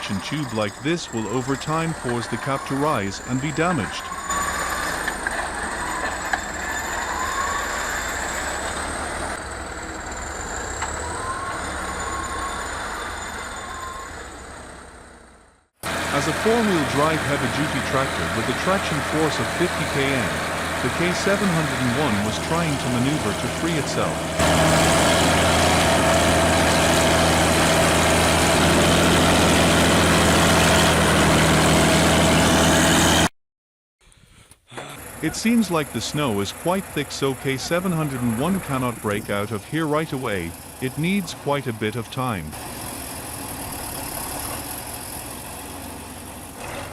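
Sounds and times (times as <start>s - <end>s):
heavy vehicle engine rumbling: 0.0s - 33.3s, 34.7s - 46.9s.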